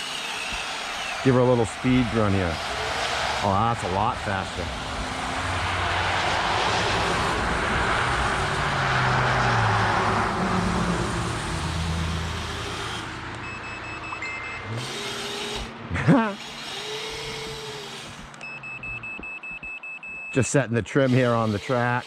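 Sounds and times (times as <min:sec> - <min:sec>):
electric motor whine: 0:00.0 - 0:13.4, 0:14.6 - 0:18.4, 0:21.1 - 0:22.0.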